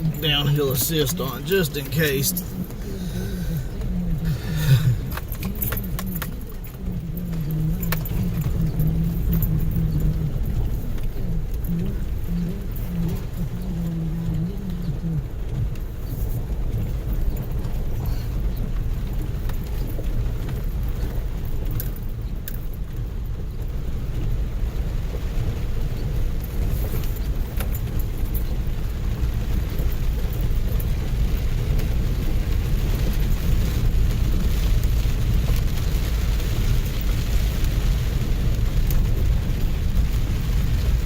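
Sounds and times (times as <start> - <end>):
vehicle engine and tyre rumble: 0.0 - 41.0.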